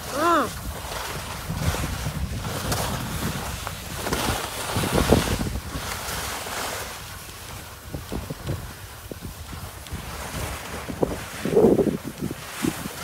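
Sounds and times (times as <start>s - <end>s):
skis sliding on packed snow: 0.0s - 13.0s
wind buffeting microphone: 0.0s - 13.0s.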